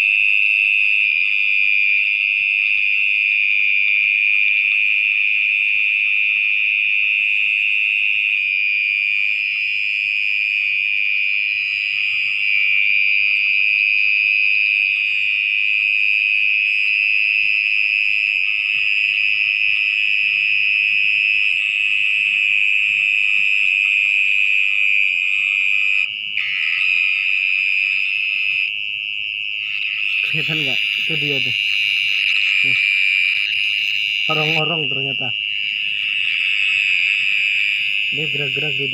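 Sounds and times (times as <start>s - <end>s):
mole cricket high trill: 4.6s - 38.9s.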